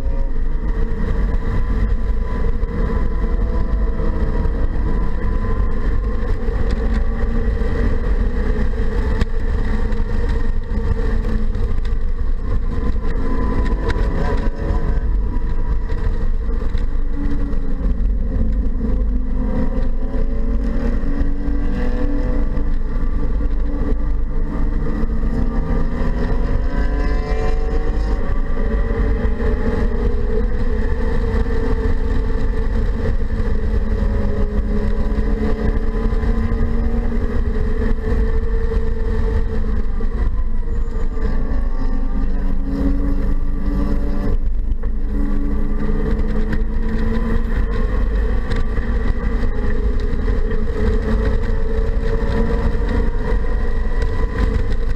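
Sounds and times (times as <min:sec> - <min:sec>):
car engine revving: 0:00.0 - 0:54.9
low road noise rumble: 0:00.0 - 0:54.9.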